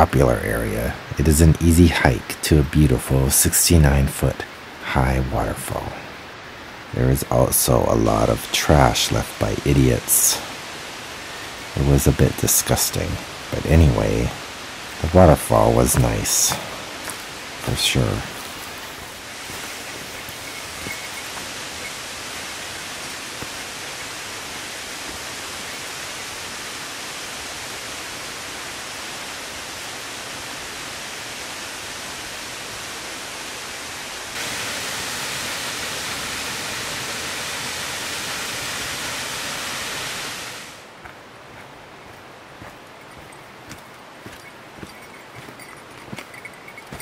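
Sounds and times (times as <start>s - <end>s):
waterfall roaring: 0.0s - 47.0s.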